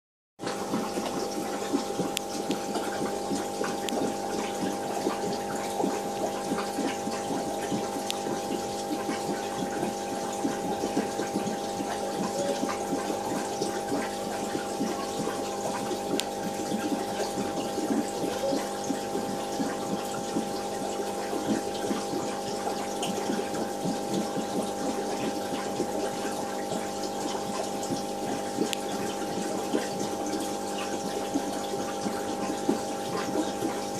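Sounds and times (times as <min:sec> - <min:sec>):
aquarium pump humming: 0:00.4 - 0:33.9
water bubbling and trickling: 0:00.4 - 0:33.9.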